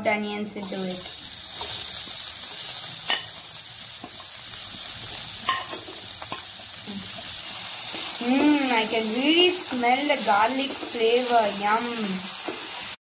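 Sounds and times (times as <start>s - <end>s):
onions sizzling in butter: 0.0s - 13.0s.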